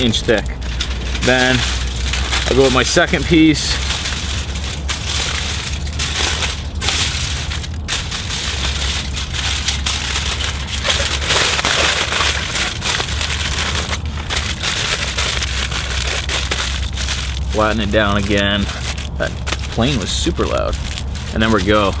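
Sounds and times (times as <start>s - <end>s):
aluminium foil crinkling: 0.0s - 22.0s.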